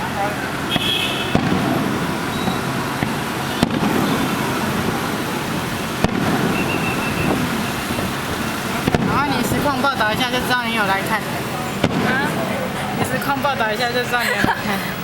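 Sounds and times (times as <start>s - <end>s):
faint fireworks pops: 0.0s - 13.6s
fireworks sharp bangs: 0.0s - 14.7s
fireworks rumble: 0.0s - 15.0s.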